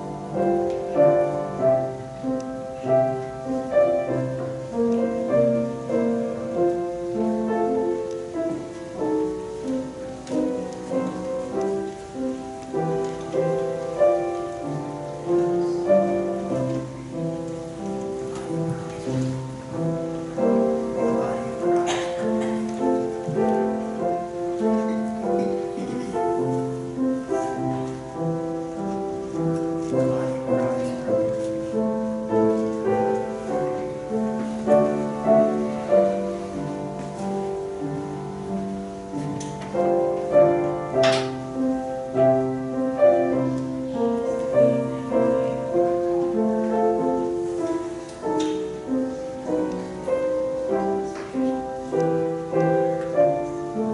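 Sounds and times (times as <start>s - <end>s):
slow keyboard music: 0.0s - 53.9s.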